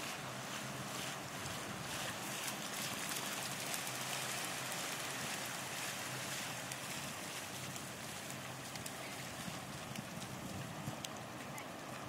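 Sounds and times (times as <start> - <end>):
small waves washing onto shore: 0.0 - 12.0
wind: 0.0 - 12.0.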